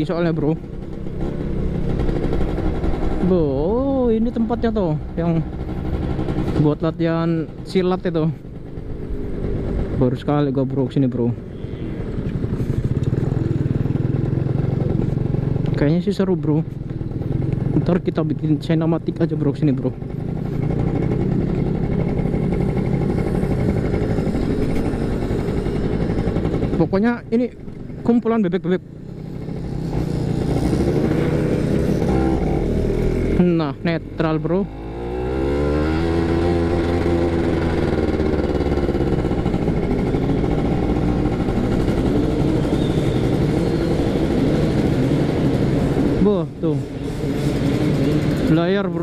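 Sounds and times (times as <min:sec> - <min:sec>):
two-stroke motorcycle engine running: 0:00.0 - 0:49.0.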